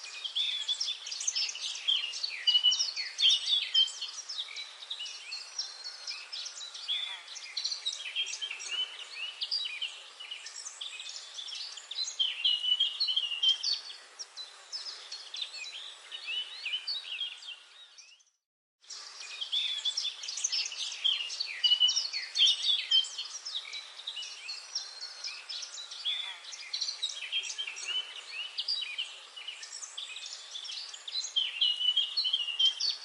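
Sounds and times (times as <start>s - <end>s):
songbirds chirping and trilling: 0.0s - 33.0s.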